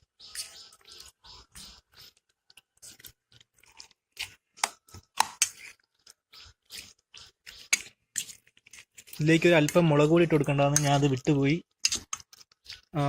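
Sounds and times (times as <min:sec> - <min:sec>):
wet squelching of mixing chicken: 0:00.0 - 0:13.0.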